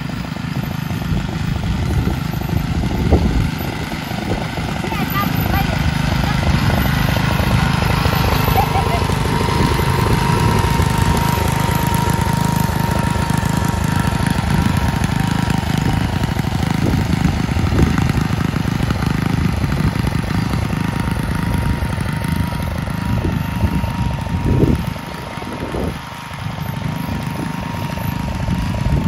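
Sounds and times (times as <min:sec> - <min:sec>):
high mower whine: 0:00.0 - 0:29.0
ride-on mower engine running: 0:00.0 - 0:29.0.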